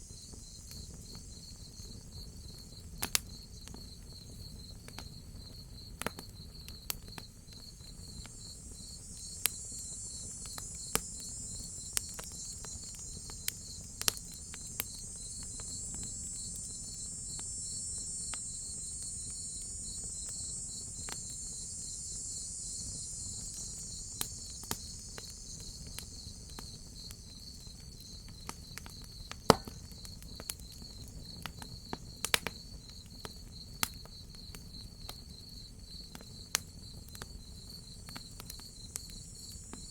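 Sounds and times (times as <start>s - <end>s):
crickets chirping: 0.0s - 39.9s
high insect hiss: 0.0s - 39.9s
wood fire crackling: 0.1s - 35.2s.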